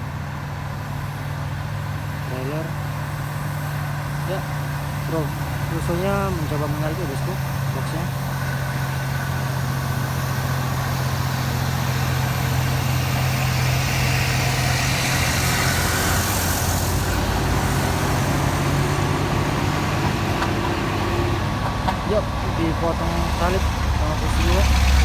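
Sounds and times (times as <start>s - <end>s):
diesel truck engine droning: 0.0s - 25.0s
hiss: 0.8s - 21.2s.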